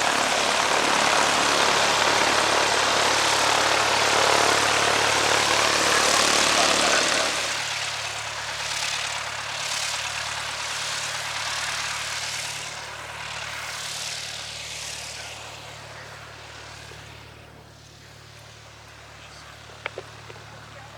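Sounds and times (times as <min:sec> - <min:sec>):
propeller airplane engine: 0:00.0 - 0:20.9.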